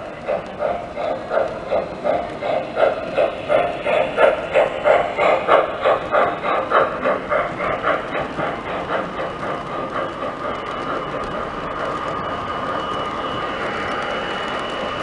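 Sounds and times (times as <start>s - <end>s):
model steam locomotive chuffing: 0.0s - 15.0s
model train cars rumbling on track: 0.0s - 15.0s.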